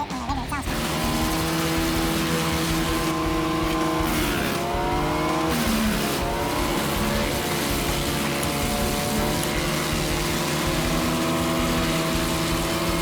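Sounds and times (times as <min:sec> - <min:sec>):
wood chipper engine running: 0:00.0 - 0:13.0.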